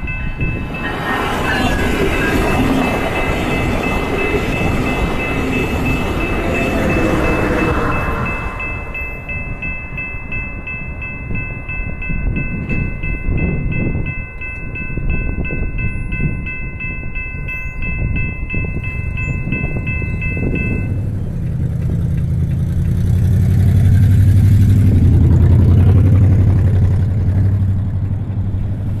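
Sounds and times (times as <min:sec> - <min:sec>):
level-crossing warning bell ringing: 0:00.0 - 0:27.5
train rumbling: 0:00.0 - 0:29.0.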